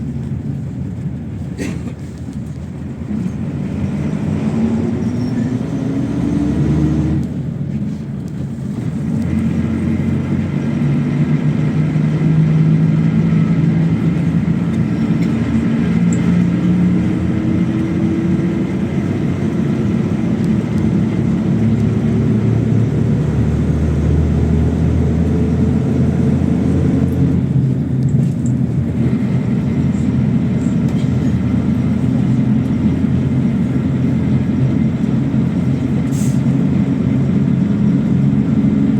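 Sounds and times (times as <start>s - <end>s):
bus engine pulling under load: 0.0s - 38.9s.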